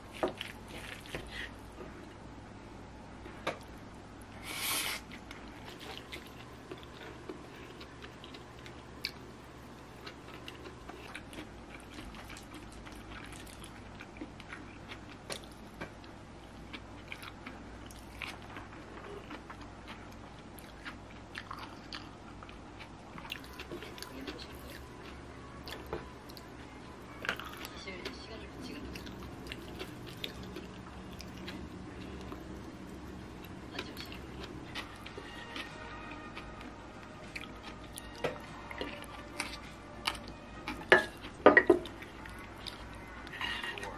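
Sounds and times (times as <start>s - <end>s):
soft chewing: 0.0s - 2.2s, 3.2s - 43.9s.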